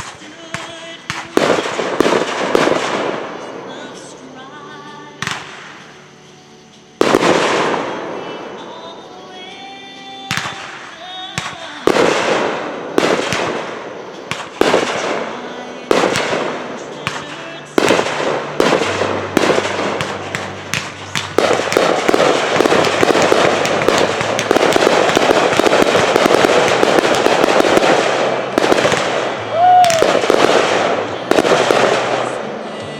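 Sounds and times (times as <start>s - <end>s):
fireworks banging: 0.0s - 32.9s
fireworks crackling: 0.0s - 32.9s.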